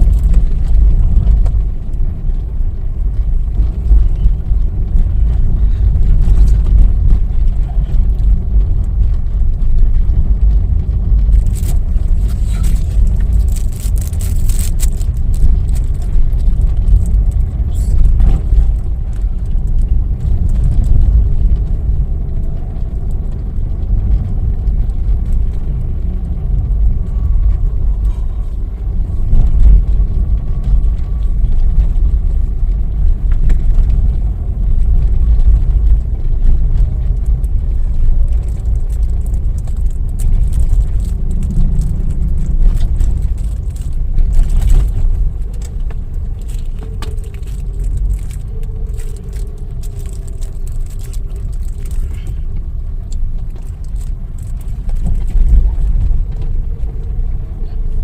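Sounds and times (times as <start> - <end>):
car engine and road rumble: 0.0 - 58.0
crackly hiss and clicks: 0.0 - 58.0.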